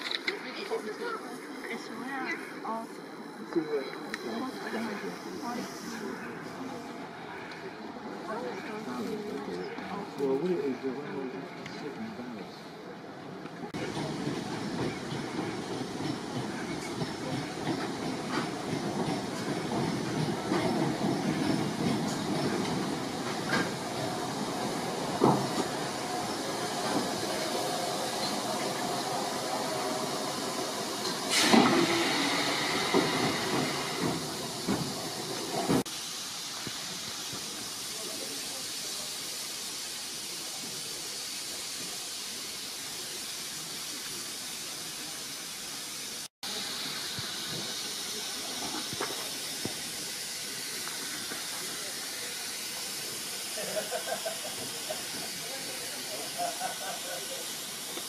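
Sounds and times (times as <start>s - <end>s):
hiss of steam: 0.0s - 11.0s, 13.7s - 58.0s
rumble of train wheels: 0.0s - 58.0s.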